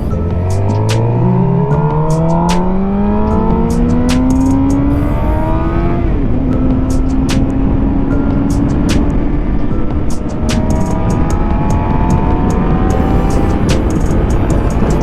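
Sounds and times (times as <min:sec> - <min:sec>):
motorcycle engine accelerating: 0:00.0 - 0:15.0
wind rush: 0:00.0 - 0:15.0.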